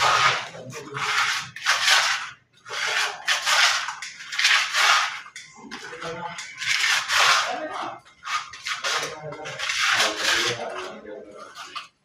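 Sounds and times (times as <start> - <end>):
trowel scraping wet plaster: 0.0 - 12.0.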